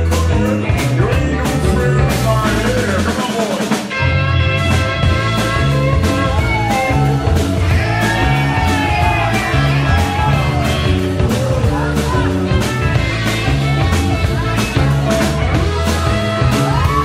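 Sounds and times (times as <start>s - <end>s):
bass line: 0.0s - 17.0s
drum kit beat: 0.0s - 17.0s
rock band playing: 0.0s - 17.0s.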